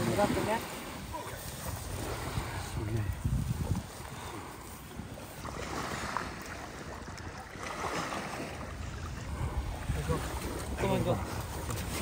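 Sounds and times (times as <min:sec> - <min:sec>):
water washing against shore: 0:00.0 - 0:12.0
wind on microphone: 0:00.0 - 0:12.0.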